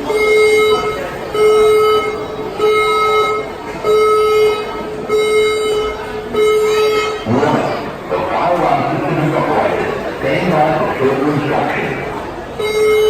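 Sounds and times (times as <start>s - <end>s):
loud low alert beeps: 0.1s - 13.0s.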